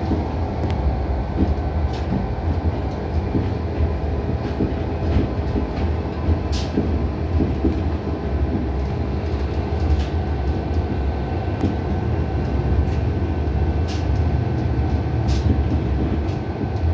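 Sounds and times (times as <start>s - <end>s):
railcar low rumble: 0.0s - 16.9s.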